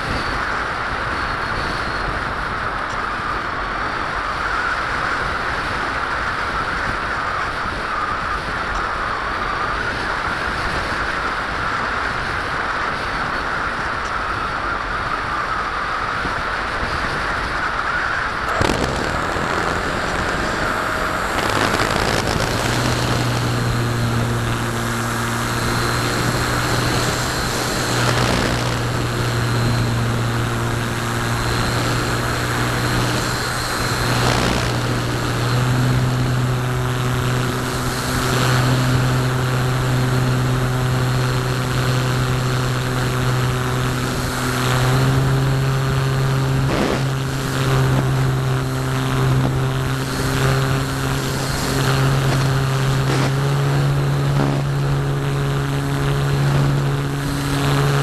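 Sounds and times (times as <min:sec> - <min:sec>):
electric motor propeller drone: 0:00.0 - 0:58.0
wind rushing over camera: 0:00.0 - 0:58.0.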